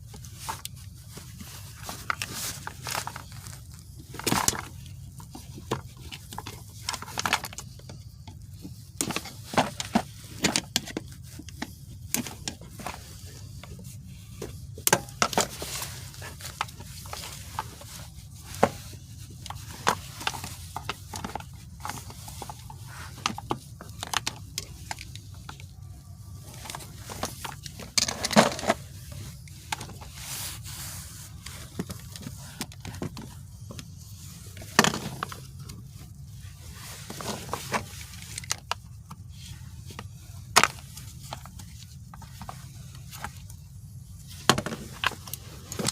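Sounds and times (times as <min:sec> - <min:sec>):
hand tools clicking and scraping: 0:00.0 - 0:45.9
steady low hum: 0:00.0 - 0:45.9.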